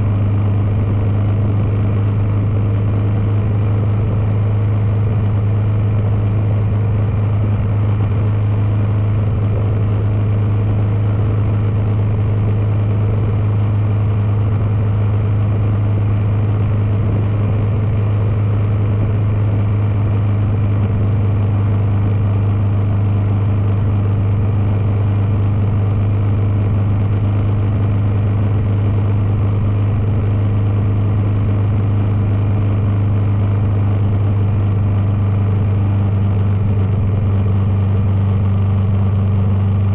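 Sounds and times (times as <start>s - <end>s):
motorcycle engine humming: 0.0s - 39.9s.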